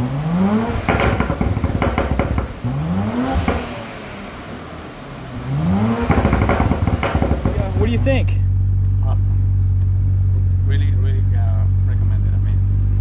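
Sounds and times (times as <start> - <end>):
car engine revving: 0.0 - 13.0
exhaust crackling and popping: 0.0 - 13.0.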